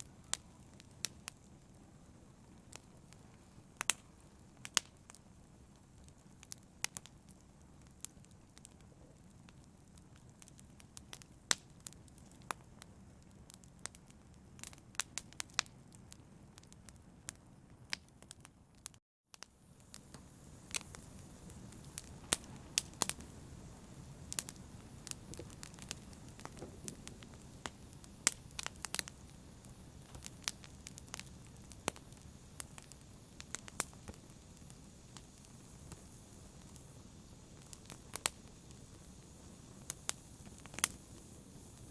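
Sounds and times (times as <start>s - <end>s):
campfire hissing: 0.0s - 16.6s, 19.4s - 41.9s
fire pops and snaps: 2.6s - 17.0s, 17.9s - 41.9s.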